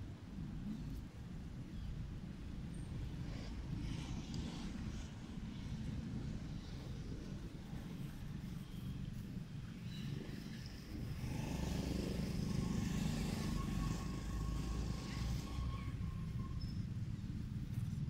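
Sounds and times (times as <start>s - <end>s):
faint steady whine: 0.0s - 18.0s
vehicle engine rumble: 0.0s - 18.0s.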